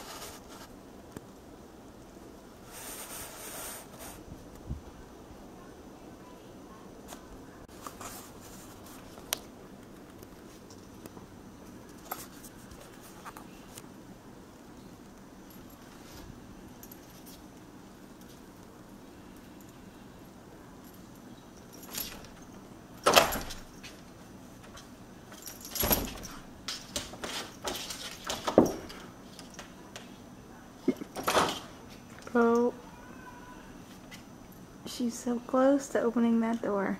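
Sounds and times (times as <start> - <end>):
faint room hum: 0.0 - 36.9.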